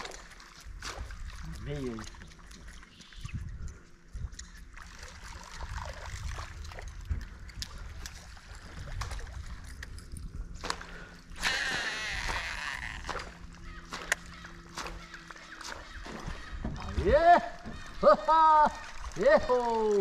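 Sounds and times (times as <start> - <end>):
water lapping against boat: 0.0 - 20.0.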